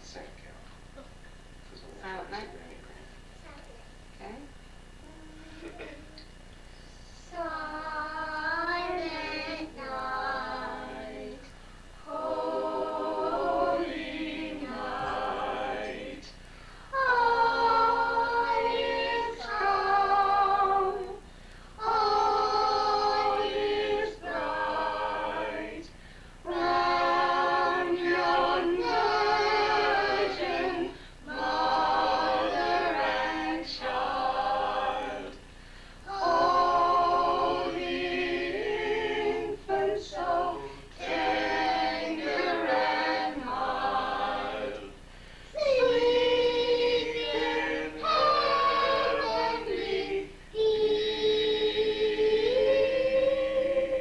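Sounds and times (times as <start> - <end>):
family singing a carol: 4.2 - 54.0.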